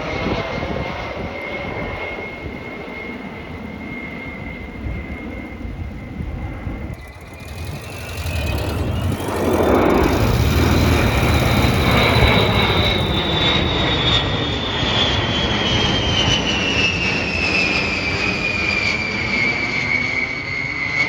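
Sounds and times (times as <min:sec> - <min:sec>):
aircraft engines passing: 0:00.0 - 0:21.0
high engine whine: 0:00.0 - 0:21.0.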